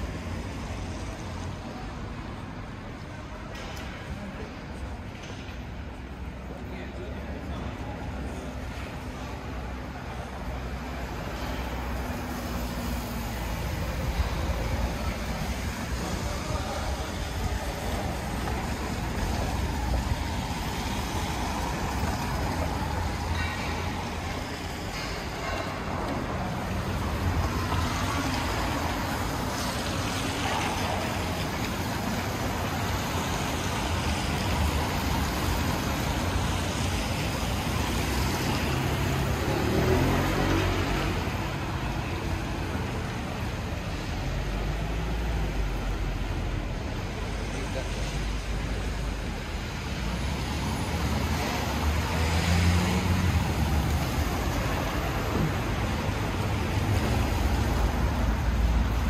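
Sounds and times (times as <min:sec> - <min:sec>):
traffic passing: 0:00.0 - 0:59.0.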